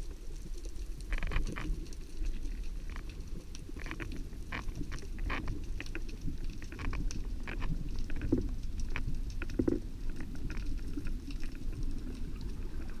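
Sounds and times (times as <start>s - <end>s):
underwater clicks and crackles: 0.0s - 13.0s.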